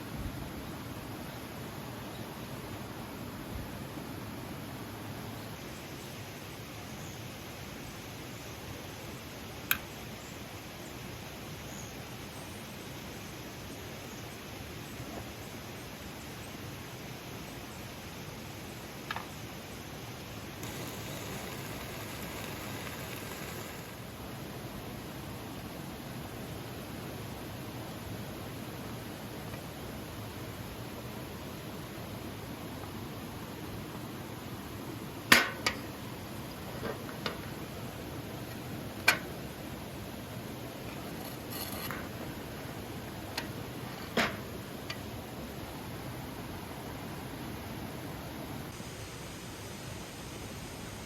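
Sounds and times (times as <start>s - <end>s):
outdoor background hiss: 0.0s - 51.0s.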